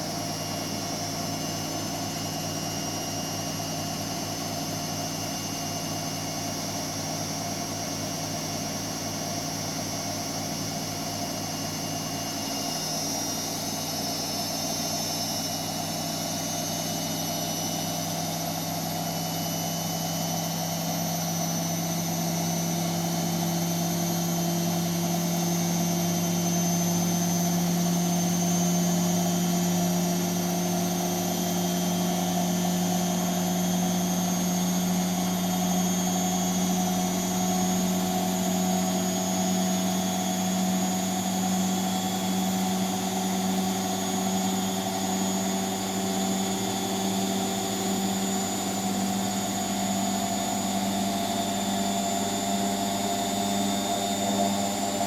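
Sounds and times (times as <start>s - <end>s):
washing machine motor hum and whine: 0.0s - 55.0s.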